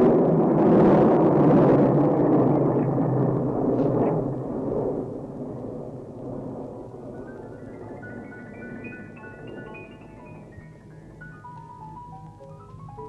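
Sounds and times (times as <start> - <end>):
aircraft engine roar: 0.0 - 13.0.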